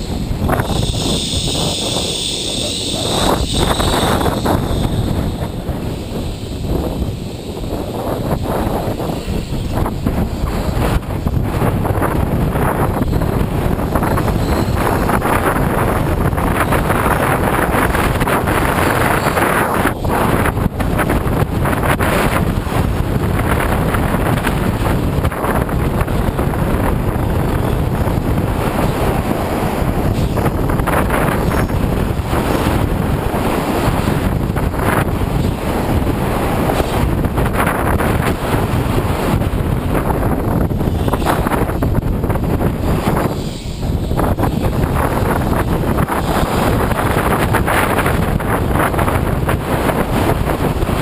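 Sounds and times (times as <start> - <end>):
tram running vibration: 0.0 - 51.0
wind buffeting microphone: 0.0 - 51.0.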